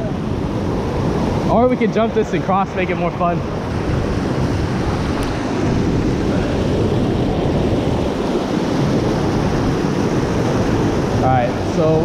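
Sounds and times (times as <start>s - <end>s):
whitewater rushing over rocks: 0.0s - 12.0s.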